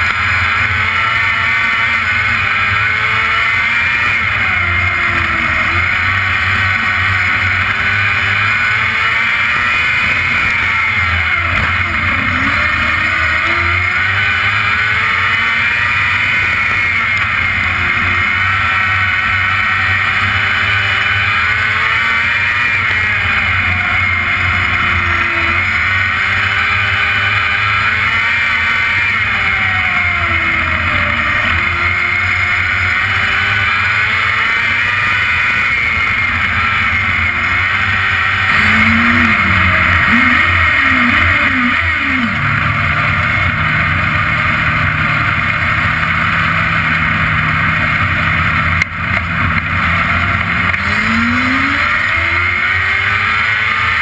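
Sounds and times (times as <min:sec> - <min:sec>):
race car engine revving: 0:00.0 - 0:54.0
wind and road noise: 0:00.0 - 0:54.0.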